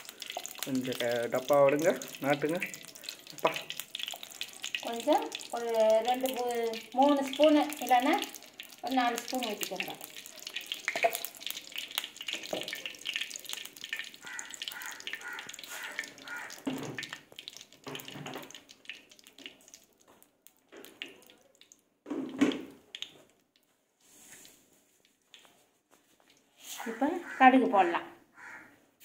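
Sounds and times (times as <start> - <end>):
oil pouring and sizzling: 0.0 - 26.9.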